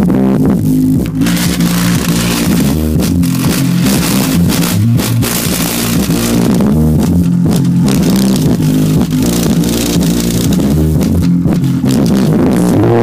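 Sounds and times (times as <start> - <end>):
loud music with heavy bass: 0.0 - 13.0
guitar: 0.9 - 13.0.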